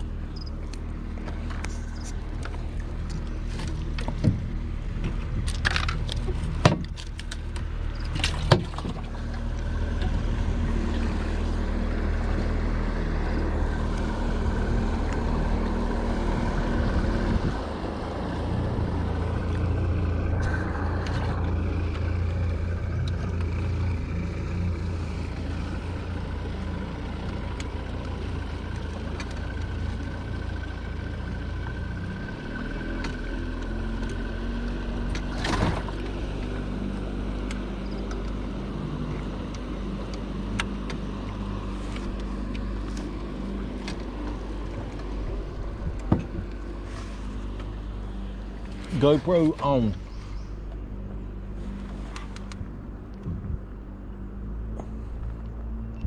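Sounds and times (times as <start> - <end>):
boat motor running: 0.0 - 56.0.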